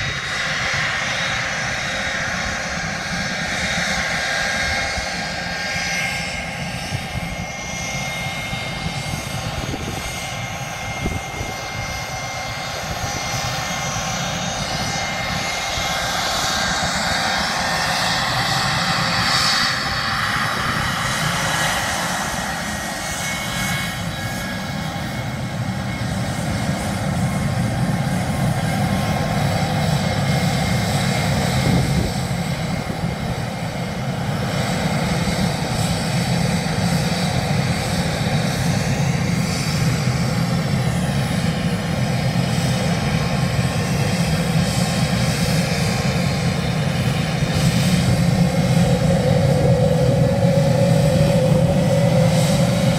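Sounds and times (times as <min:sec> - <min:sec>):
jet airliner engines taxiing: 0:00.0 - 0:52.9.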